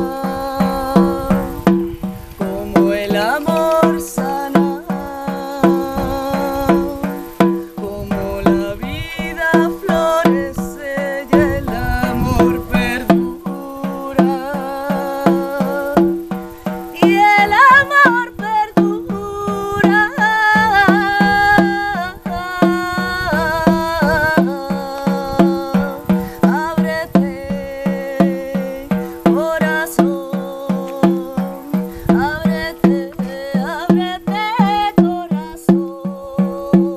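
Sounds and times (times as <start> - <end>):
frame drum beat: 0.0 - 36.9
woman singing: 0.0 - 36.9.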